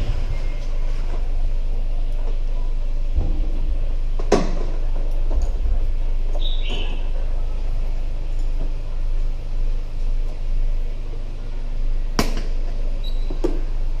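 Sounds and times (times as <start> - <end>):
scooter engine rumble: 0.0 - 14.0.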